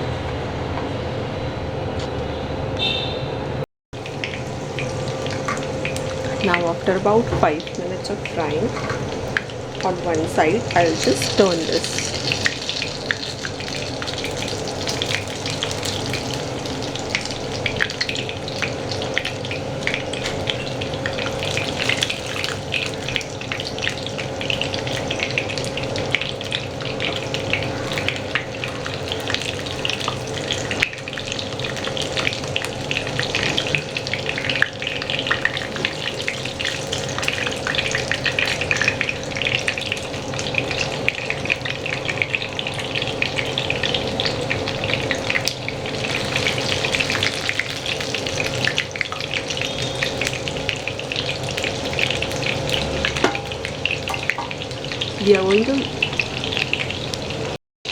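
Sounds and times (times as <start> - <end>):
food deep frying in oil: 4.0 - 57.9.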